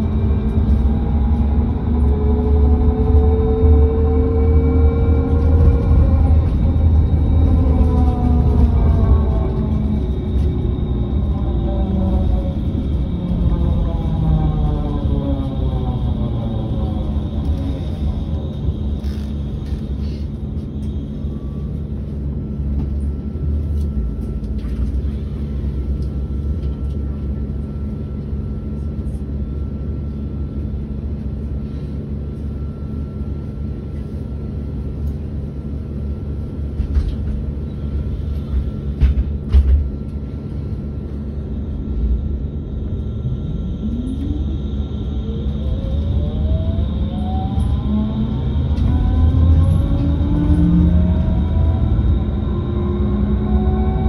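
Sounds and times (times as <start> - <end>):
bus systems humming: 0.0 - 54.0.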